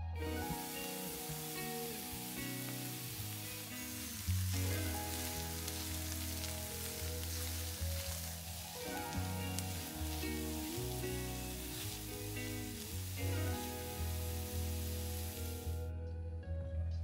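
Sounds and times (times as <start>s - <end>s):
background music: 0.0s - 17.0s
food sizzling in hot oil: 0.3s - 15.8s.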